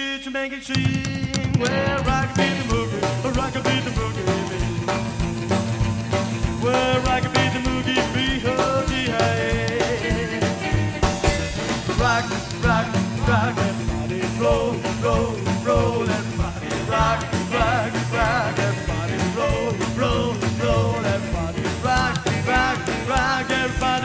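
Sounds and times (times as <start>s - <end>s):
rockabilly band instrumental: 0.6s - 24.0s
upright bass: 0.7s - 24.0s.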